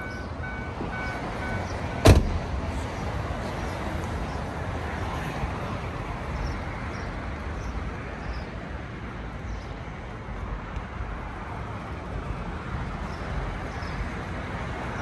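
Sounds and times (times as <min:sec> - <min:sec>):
traffic rumble and hiss: 0:00.0 - 0:15.0.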